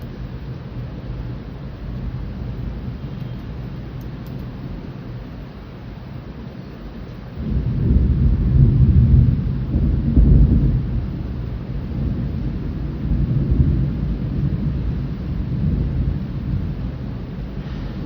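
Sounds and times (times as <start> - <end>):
faint rain: 0.0 - 18.0
thunder rumbling: 0.0 - 18.0.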